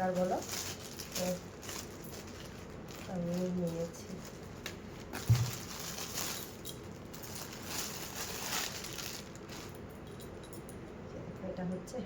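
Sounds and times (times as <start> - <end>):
fabric and packaging rustling: 0.0 - 10.5.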